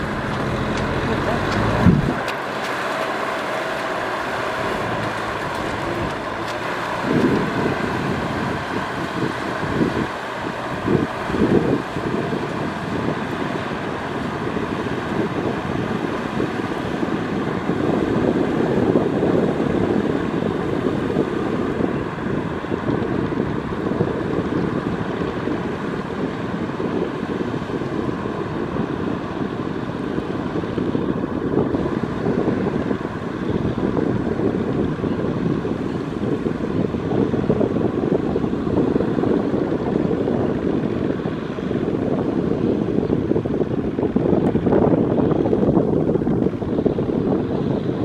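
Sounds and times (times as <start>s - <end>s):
diesel tractors running under load: 0.0s - 48.0s
rotary tillers churning mud and water: 0.0s - 48.0s.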